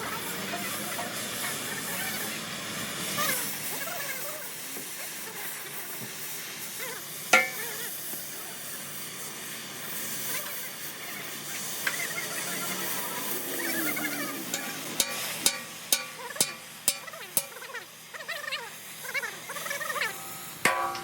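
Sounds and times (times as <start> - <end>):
hissing crackling metal repair work: 0.0 - 21.0.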